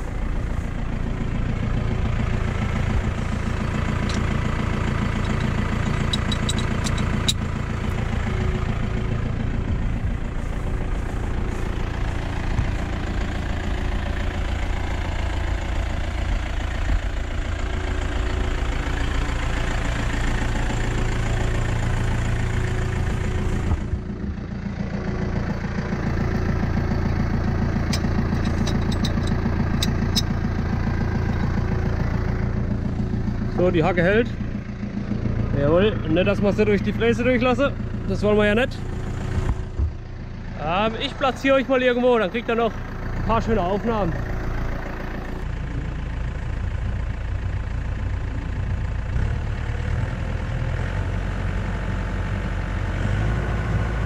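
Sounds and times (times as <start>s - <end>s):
tractor diesel engine idling: 0.0s - 54.0s.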